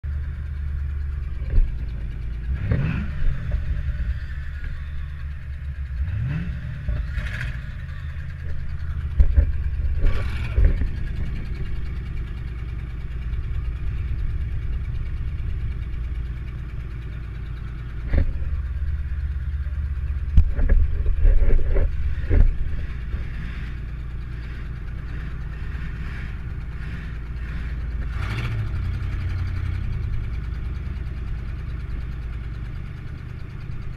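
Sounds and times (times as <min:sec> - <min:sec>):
car engine rumbling and revving: 0:00.0 - 0:33.9.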